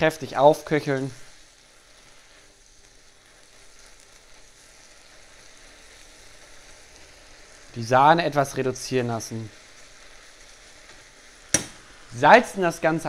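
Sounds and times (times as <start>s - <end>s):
cream sizzling in a frying pan: 0.0s - 13.0s.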